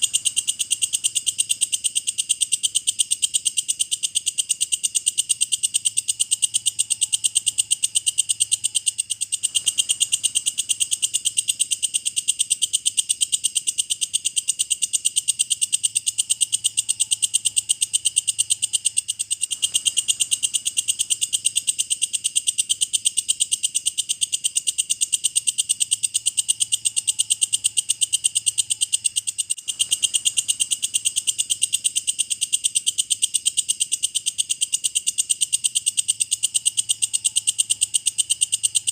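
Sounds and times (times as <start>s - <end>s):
katydid calling: 0.0s - 38.9s.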